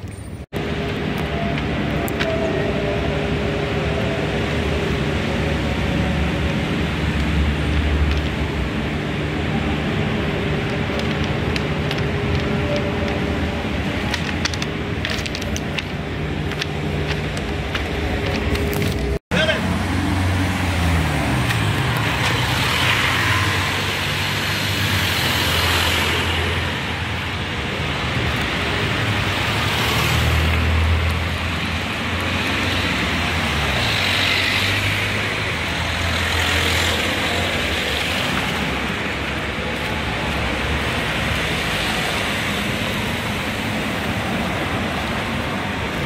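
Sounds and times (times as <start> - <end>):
traffic rushing noise: 0.0 - 46.0
vehicle engines passing: 0.0 - 46.0.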